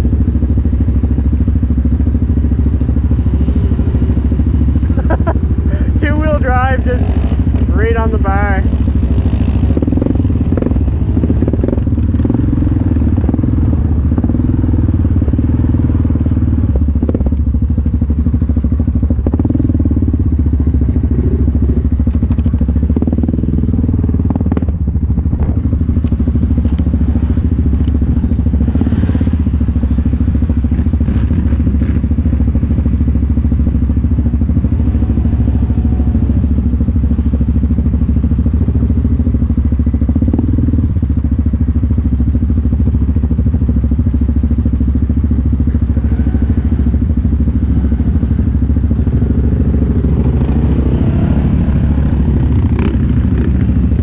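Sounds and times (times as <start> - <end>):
atv engine idling low: 0.0 - 54.0.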